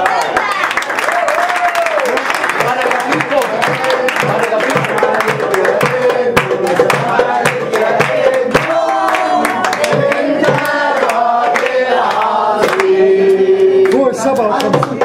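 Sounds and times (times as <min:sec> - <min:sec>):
hand clapping: 0:00.0 - 0:15.0
group of people singing: 0:02.6 - 0:15.0.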